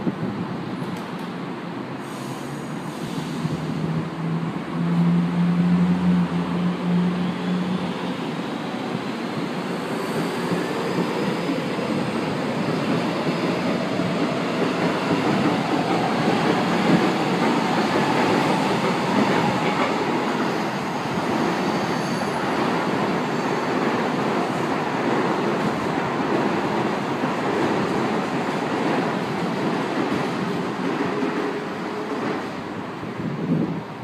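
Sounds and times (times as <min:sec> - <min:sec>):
train wheels rolling on rails: 0:02.1 - 0:34.0.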